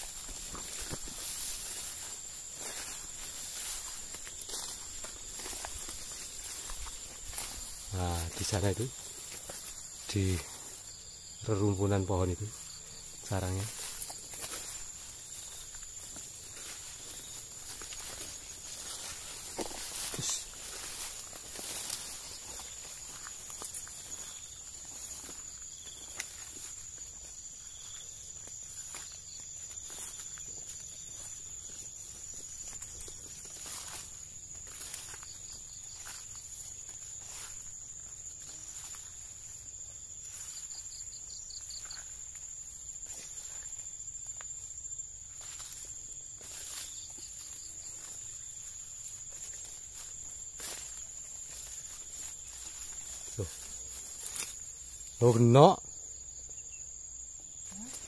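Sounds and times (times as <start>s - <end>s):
footsteps rustling through grass: 0.0s - 58.0s
high-pitched insect drone: 0.0s - 58.0s.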